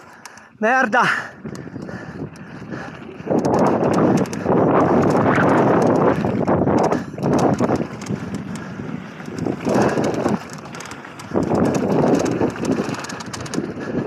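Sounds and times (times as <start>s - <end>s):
mountain bike rattling: 0.0s - 14.0s
tyres rumbling over dirt trail: 0.0s - 14.0s
wind buffeting microphone: 1.0s - 14.0s
bike clattering over bumps: 1.3s - 14.0s.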